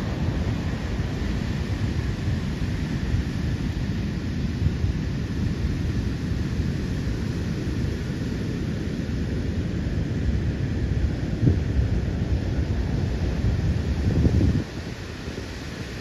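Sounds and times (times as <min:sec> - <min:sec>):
heavy surf roaring: 0:00.0 - 0:16.0
wind buffeting microphone: 0:00.0 - 0:16.0.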